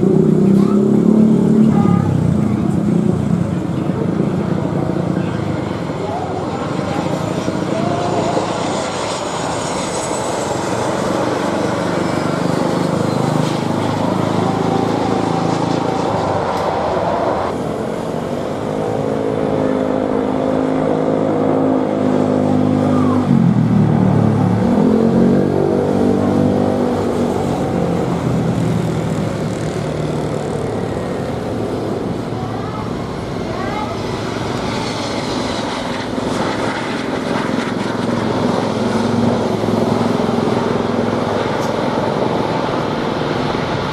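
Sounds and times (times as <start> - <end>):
loud engine hum: 0.0 - 43.9.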